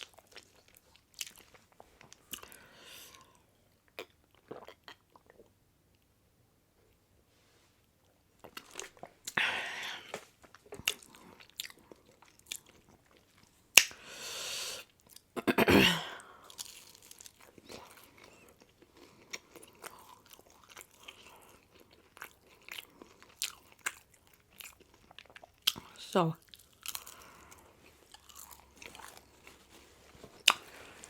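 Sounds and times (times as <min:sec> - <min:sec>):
person chewing pizza: 0:00.0 - 0:05.6, 0:08.0 - 0:13.9, 0:16.2 - 0:31.0.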